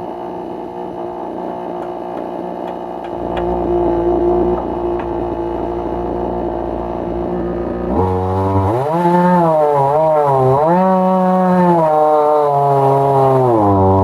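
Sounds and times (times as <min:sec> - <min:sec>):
chainsaw revving: 0:00.2 - 0:14.0.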